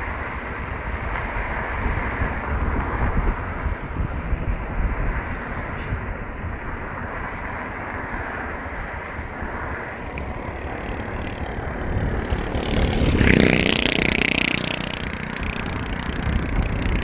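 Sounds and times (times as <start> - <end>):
vehicle road and engine noise: 0.0 - 17.0
wind rush on microphone: 0.0 - 17.0.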